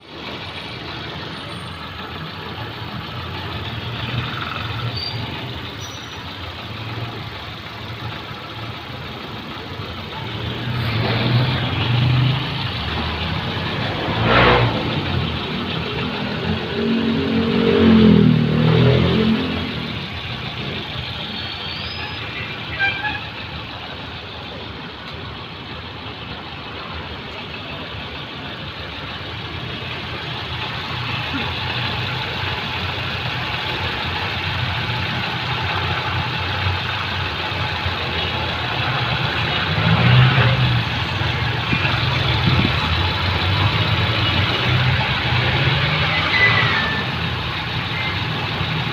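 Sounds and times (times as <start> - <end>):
motor vehicle running: 0.0 - 48.9.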